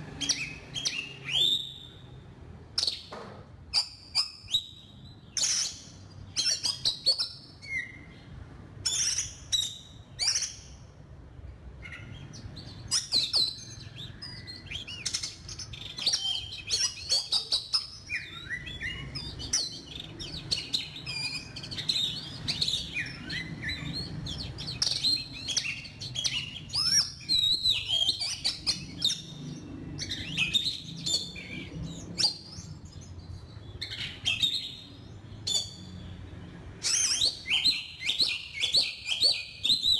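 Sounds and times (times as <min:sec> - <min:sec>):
bird singing whistled notes: 0:00.2 - 0:02.2, 0:03.7 - 0:08.1, 0:11.8 - 0:36.0, 0:36.8 - 0:39.9.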